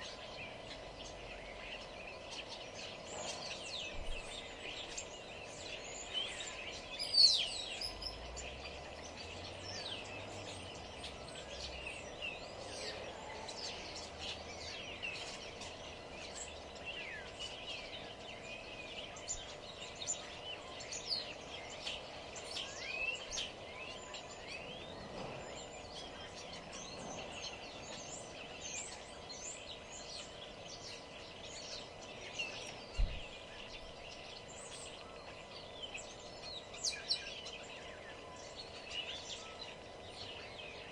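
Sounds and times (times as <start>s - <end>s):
small birds chirping: 0.0s - 40.9s
steady background hum: 0.0s - 40.9s.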